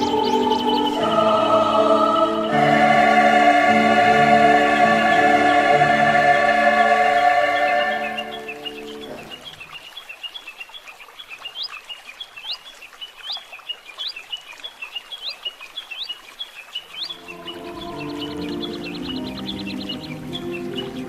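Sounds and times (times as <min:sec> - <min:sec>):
small birds chirping: 0:00.0 - 0:02.7, 0:04.6 - 0:21.0.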